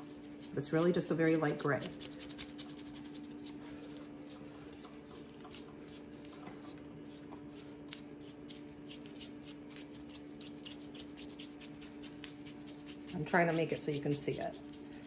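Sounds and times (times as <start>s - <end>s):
brush scratching on concrete: 0.0s - 15.0s
steady low hum: 0.0s - 15.0s.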